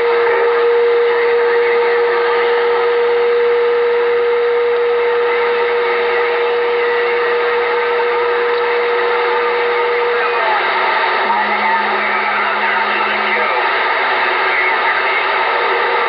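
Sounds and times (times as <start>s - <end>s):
radio static hiss: 0.0s - 16.0s
steady whistle tone: 0.0s - 16.0s.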